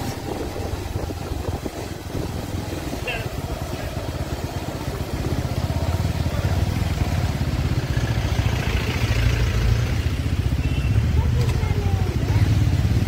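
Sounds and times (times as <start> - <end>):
motorcycle engine throbbing: 0.0 - 13.0.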